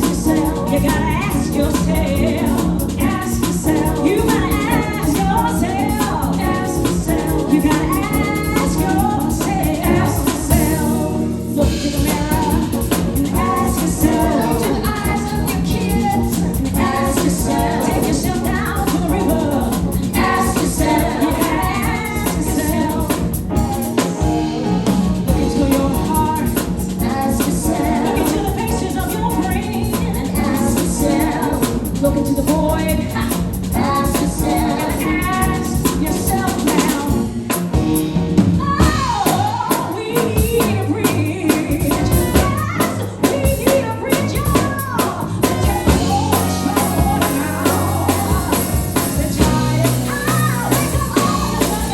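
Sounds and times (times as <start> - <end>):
drum kit: 0.0 - 51.9
live band playing: 0.0 - 51.9.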